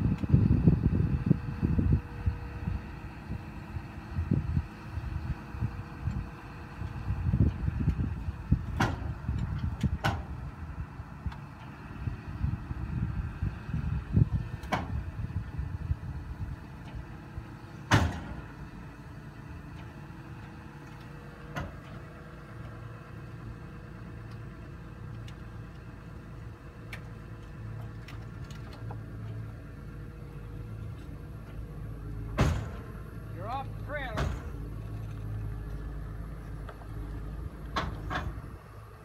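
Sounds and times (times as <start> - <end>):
engine rumbling: 0.0 - 39.0.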